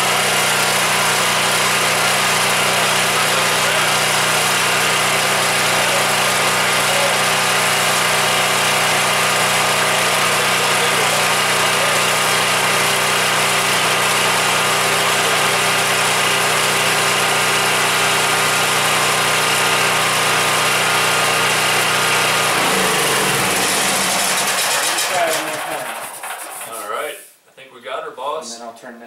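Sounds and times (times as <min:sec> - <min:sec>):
generator engine running: 0:00.0 - 0:26.8.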